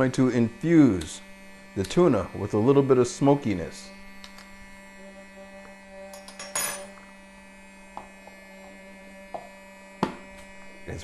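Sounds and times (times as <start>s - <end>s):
small fan motor hum: 0.0s - 11.0s.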